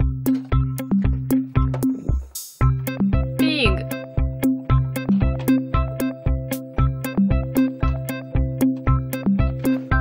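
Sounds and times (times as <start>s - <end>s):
keyboard notes: 0.0s - 10.0s
low thumping beat: 0.0s - 10.0s.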